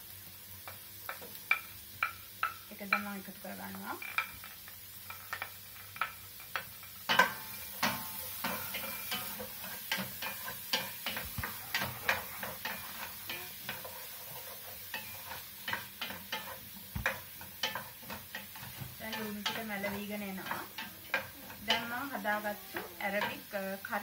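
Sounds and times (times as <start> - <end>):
onion sizzling in oil: 0.0 - 24.0
spatula scraping and knocking pot: 4.0 - 23.5.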